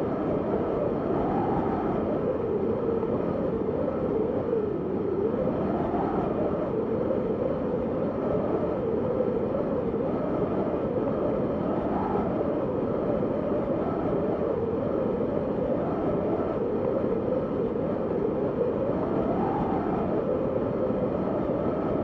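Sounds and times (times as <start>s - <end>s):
wind howling: 0.0s - 22.0s.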